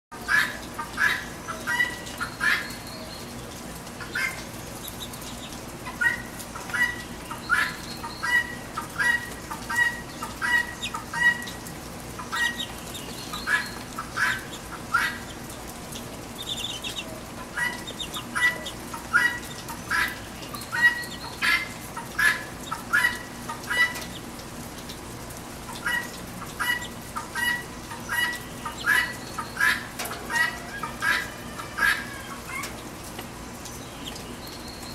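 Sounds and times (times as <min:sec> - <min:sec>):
rain hissing: 0:00.1 - 0:34.9
guineafowl squawking: 0:00.2 - 0:03.1, 0:04.0 - 0:15.6, 0:16.3 - 0:24.3, 0:25.7 - 0:32.8.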